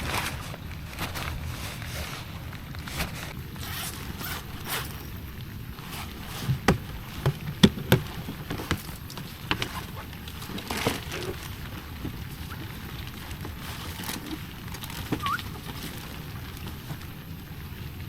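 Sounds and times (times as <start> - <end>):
handling clicks and scraping: 0.0 - 17.0
low rumble of wind on microphone: 0.0 - 18.0.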